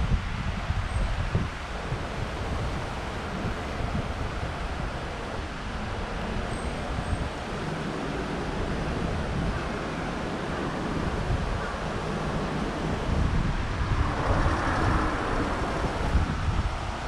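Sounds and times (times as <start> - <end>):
street background noise: 0.0 - 17.0
wind buffeting microphone: 0.0 - 17.0.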